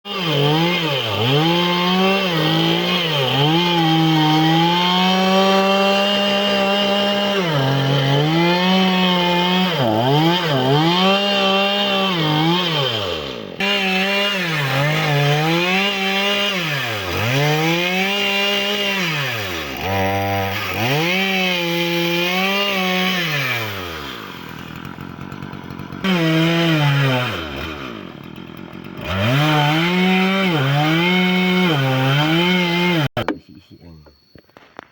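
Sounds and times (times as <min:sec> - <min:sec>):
chainsaw engine revving: 0:00.1 - 0:33.2.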